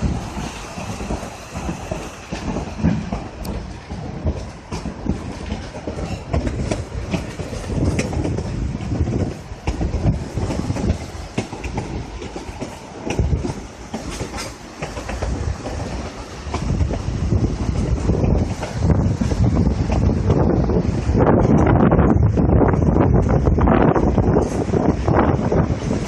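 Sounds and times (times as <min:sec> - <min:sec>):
train rumbling along track: 0:00.0 - 0:26.0
wheels clicking and rattling: 0:00.0 - 0:26.0.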